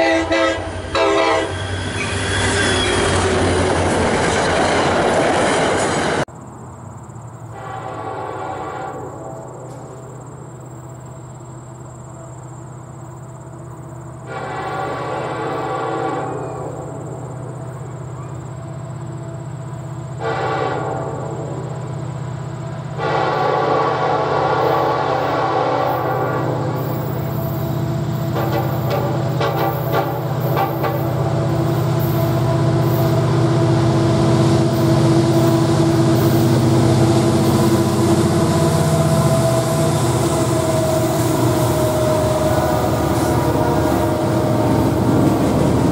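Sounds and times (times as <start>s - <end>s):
distant locomotive air horn blasts: 0.0s - 3.0s, 7.5s - 10.4s, 14.2s - 45.9s
train horns: 0.0s - 3.8s, 7.5s - 11.3s, 14.2s - 45.9s
trains passing: 0.0s - 45.9s.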